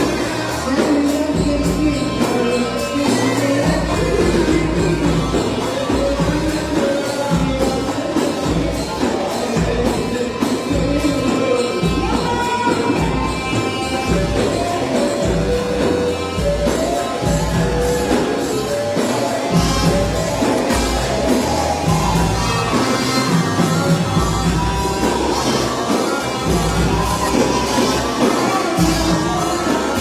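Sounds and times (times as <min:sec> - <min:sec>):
band with steady beat: 0:00.0 - 0:30.0.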